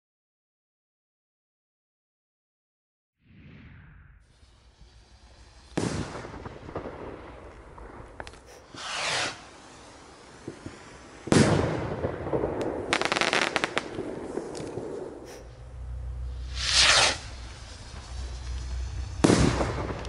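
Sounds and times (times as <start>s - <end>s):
firework rocket bangs: 3.2s - 20.0s
rising rocket whoosh: 3.2s - 20.0s
firework crackles: 3.3s - 20.0s.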